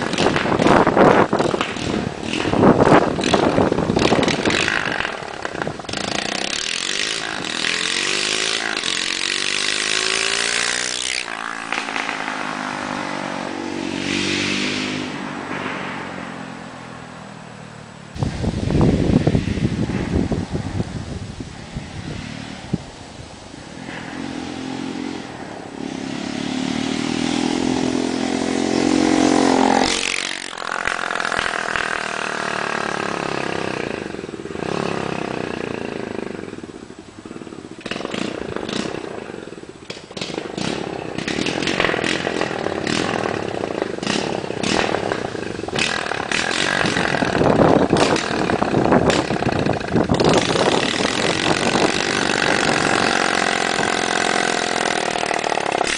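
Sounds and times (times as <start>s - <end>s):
exhaust cracks: 0.0s - 16.8s, 18.1s - 55.9s
motorbike engine revving: 0.0s - 16.8s, 17.5s - 55.9s.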